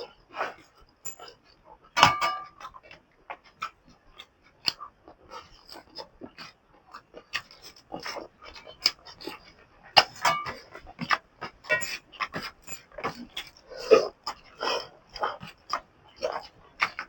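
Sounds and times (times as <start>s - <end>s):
person chewing wetly: 2.6s - 17.0s.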